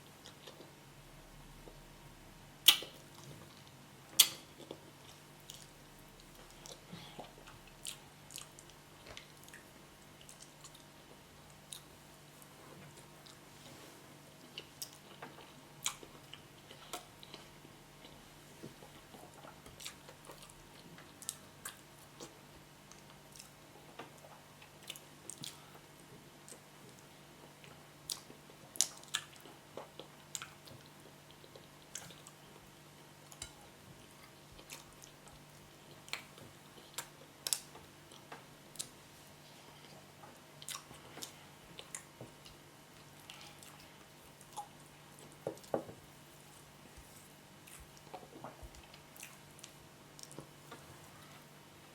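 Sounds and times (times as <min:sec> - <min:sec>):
person chewing food: 0:00.2 - 0:00.8, 0:02.6 - 0:13.8, 0:14.4 - 0:51.6.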